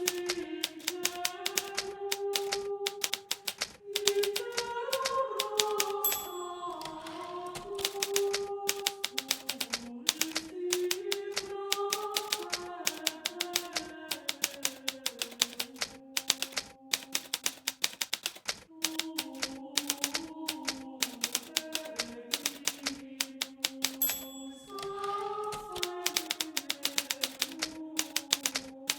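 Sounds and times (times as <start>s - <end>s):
typewriter keys striking: 0.0s - 28.9s.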